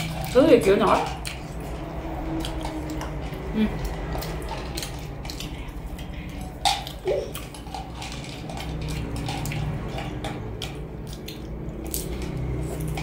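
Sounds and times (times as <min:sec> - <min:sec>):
chewing crispy spring rolls: 0:00.0 - 0:13.0.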